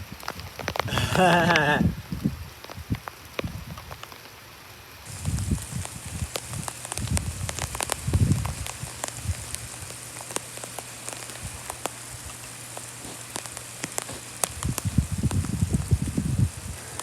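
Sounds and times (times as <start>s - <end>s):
raindrops ticking: 0.0s - 17.0s
steady rain hiss: 0.0s - 17.0s.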